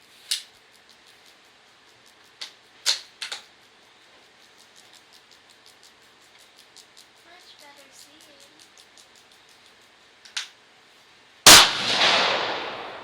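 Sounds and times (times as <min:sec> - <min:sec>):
sharp mechanical clicks: 0:00.0 - 0:10.6.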